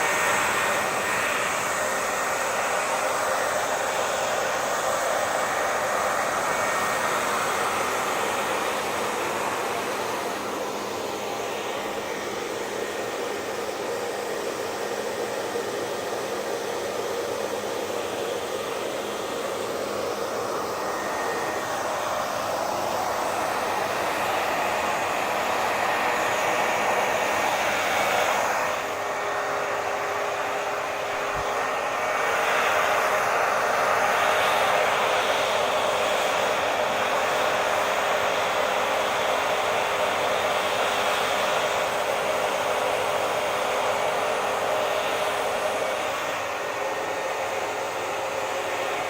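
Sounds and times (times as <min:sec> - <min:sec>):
hair dryer running: 0:00.0 - 0:49.0.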